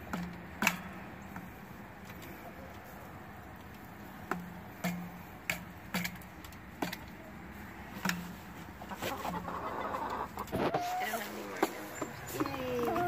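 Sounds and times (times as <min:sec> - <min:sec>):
chickens pecking toy drum: 0:00.0 - 0:13.0.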